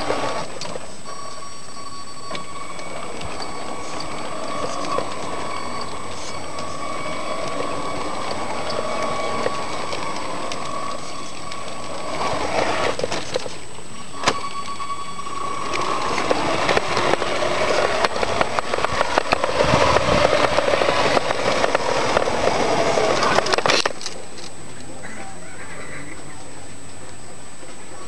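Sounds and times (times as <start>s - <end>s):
toy truck motor whine: 0.0s - 24.2s.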